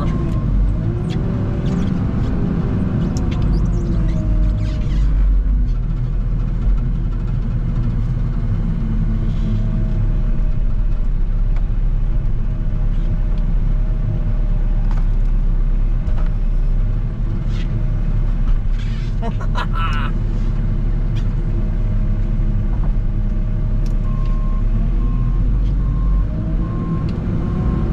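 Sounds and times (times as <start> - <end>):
tractor engine running: 0.0 - 27.3.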